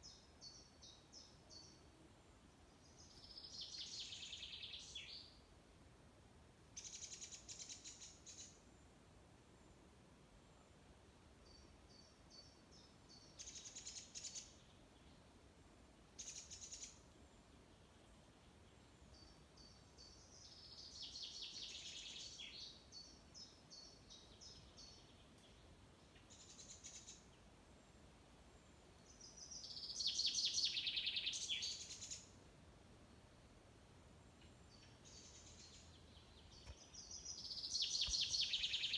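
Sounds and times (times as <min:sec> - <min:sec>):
songbirds singing: 0:00.0 - 0:05.5, 0:11.4 - 0:15.4, 0:16.2 - 0:32.5, 0:33.1 - 0:38.9.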